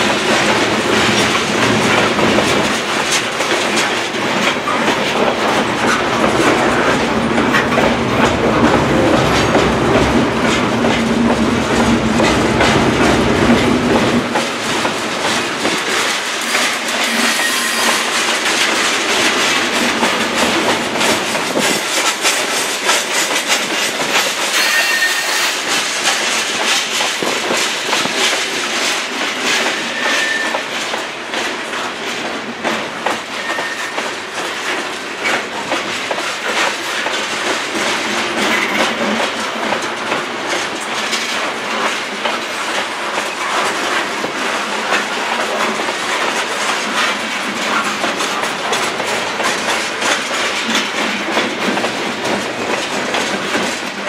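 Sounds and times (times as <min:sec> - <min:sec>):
freight train rolling past: 0:00.0 - 0:54.0
wheels clickety-clack over rail joints: 0:00.0 - 0:54.0.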